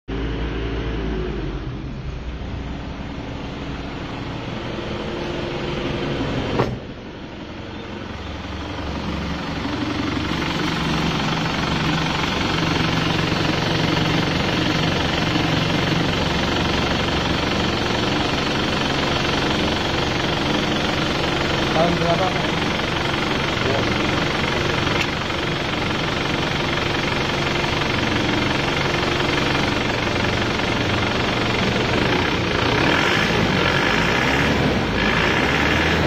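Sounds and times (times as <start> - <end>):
diesel car engine idling: 0.1 - 36.0.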